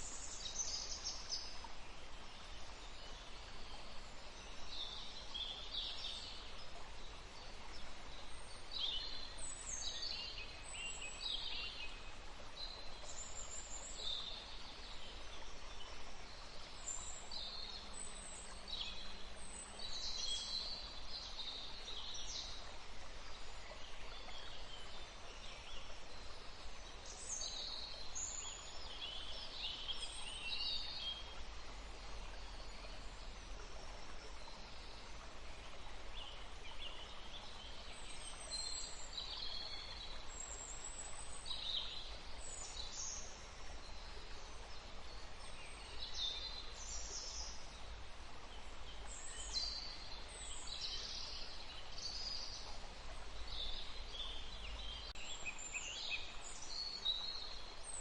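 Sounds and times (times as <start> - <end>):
forest stream running water: 0.0 - 58.0
songbirds singing and calling: 0.0 - 58.0.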